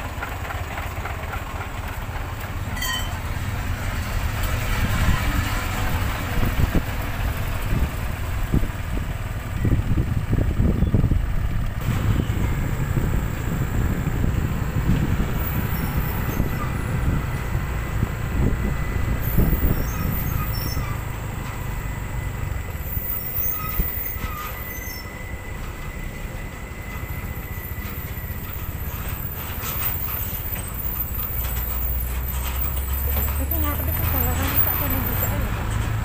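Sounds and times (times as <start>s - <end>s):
heavy truck driving past: 0.0s - 36.0s.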